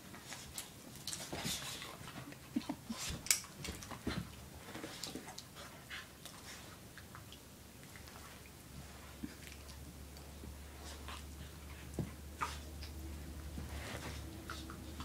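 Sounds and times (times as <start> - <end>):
dogs play-fighting: 0.0 - 15.0.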